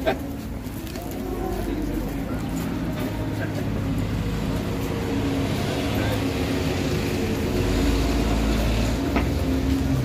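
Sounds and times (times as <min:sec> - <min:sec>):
indistinct crowd voices: 0:00.0 - 0:10.0
low street traffic rumble: 0:00.0 - 0:10.0.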